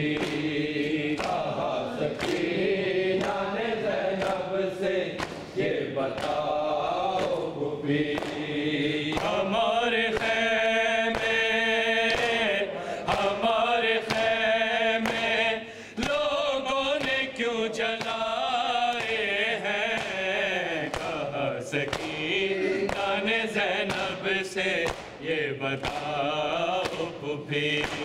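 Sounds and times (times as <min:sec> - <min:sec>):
hands slapping chest: 0:00.0 - 0:12.4, 0:13.1 - 0:14.4, 0:15.0 - 0:15.4, 0:18.0 - 0:25.2, 0:25.8 - 0:28.0
men chanting in unison: 0:00.0 - 0:28.0.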